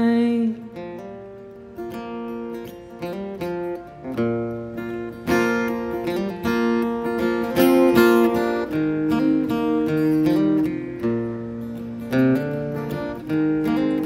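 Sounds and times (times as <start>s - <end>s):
acoustic guitar picking and strumming: 0.0s - 14.0s.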